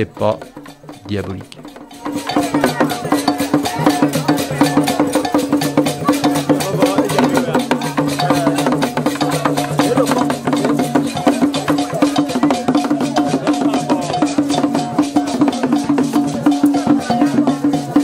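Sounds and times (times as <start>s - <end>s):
fast dense percussion: 0.0s - 18.0s.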